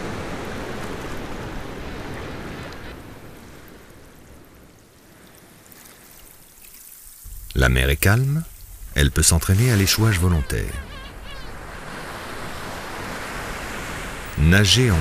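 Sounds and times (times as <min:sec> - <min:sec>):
sea surf rushing: 0:00.0 - 0:15.0.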